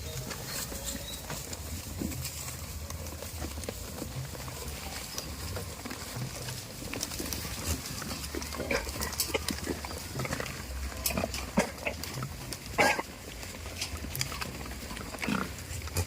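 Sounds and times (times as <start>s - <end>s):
animals moving with clicks and knocks: 0.0s - 16.0s
goats grunting: 0.0s - 16.0s.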